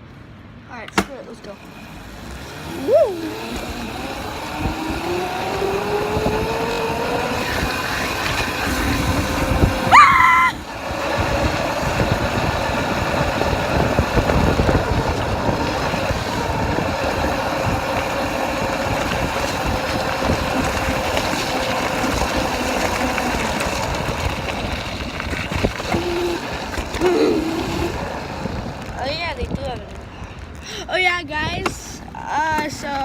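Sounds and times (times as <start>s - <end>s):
dirt bike engine running: 1.6s - 30.6s.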